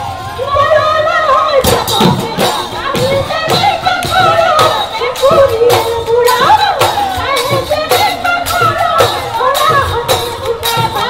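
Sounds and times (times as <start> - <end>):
drums beating quick rhythm: 0.0 - 11.0.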